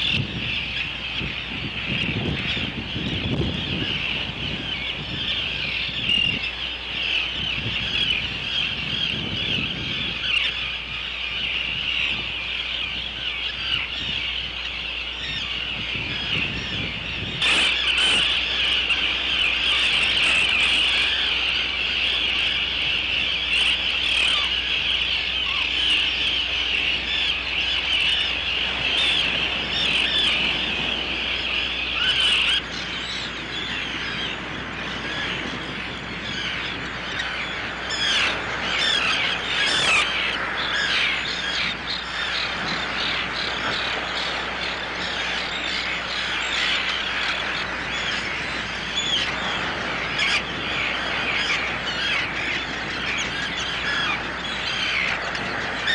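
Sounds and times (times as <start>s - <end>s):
tern colony calling: 0.0s - 55.9s.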